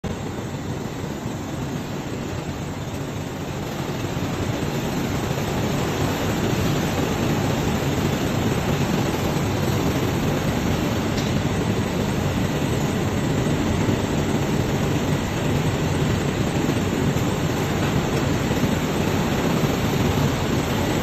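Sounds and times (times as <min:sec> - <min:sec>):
polishing machines running: 0:00.4 - 0:21.0.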